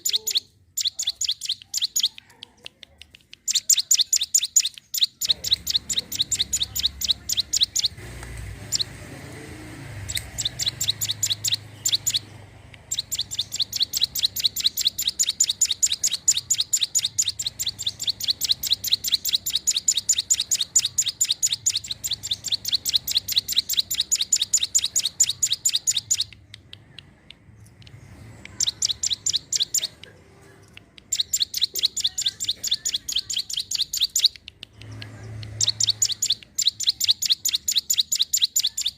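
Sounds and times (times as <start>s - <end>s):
bird singing sharp high chirps: 0.0s - 2.2s, 3.4s - 8.0s, 8.6s - 9.0s, 9.9s - 26.8s, 27.6s - 30.1s, 31.0s - 38.9s.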